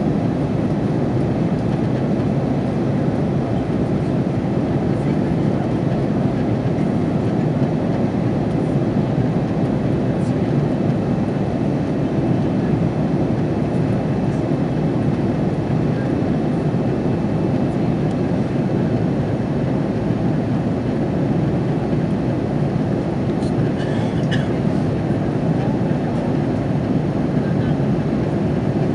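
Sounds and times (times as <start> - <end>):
airplane cabin engine rumble: 0.0 - 28.9.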